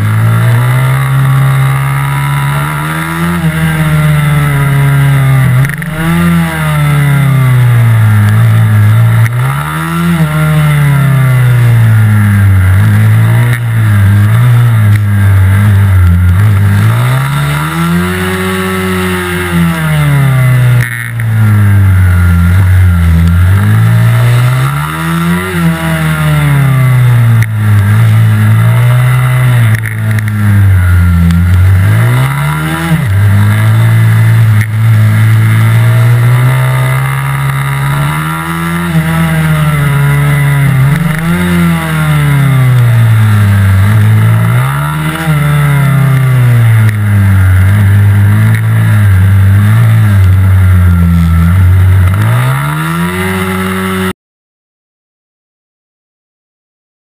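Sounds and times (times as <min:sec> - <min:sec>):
motorcycle engine revving: 0:00.0 - 0:54.2.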